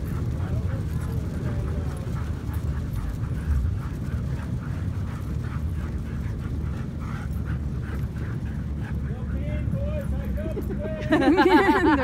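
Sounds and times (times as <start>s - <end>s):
dogs breathing: 0.0s - 12.0s
dogs' footfalls: 0.0s - 12.0s
sled runners rumbling on snow: 0.0s - 12.0s.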